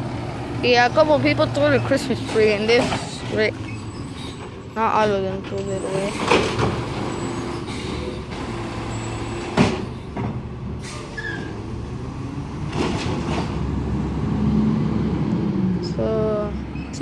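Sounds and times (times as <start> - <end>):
garbage truck engine running: 0.0 - 15.5.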